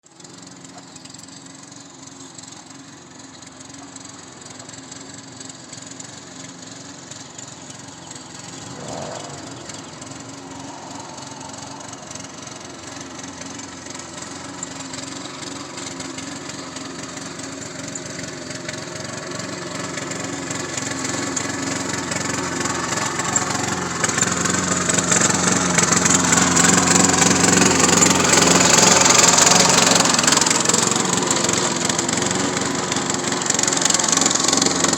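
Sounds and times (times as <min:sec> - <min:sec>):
small lawn mower engine running: 0:00.0 - 0:34.9.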